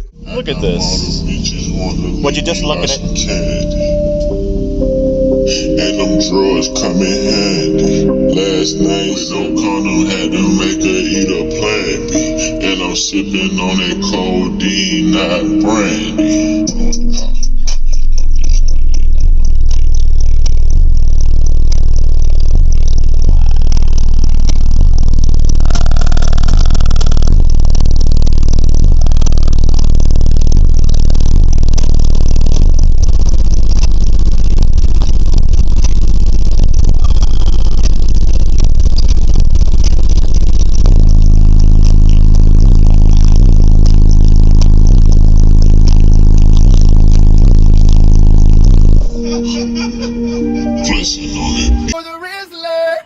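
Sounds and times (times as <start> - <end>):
loud bass from car subwoofers: 0.0 - 52.0.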